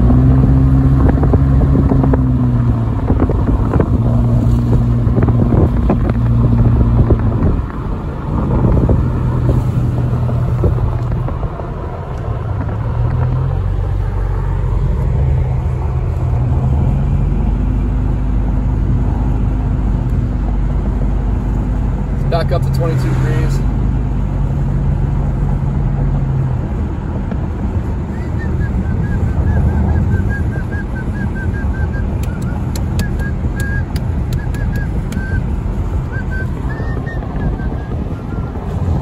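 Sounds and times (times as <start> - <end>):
car engine hum: 0.0 - 39.0
tyre and road noise: 0.0 - 39.0.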